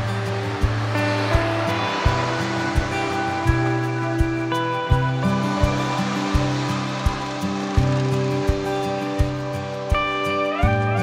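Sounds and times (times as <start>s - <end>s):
steady drum beat: 0.0s - 10.8s
sustained chords: 0.0s - 11.0s.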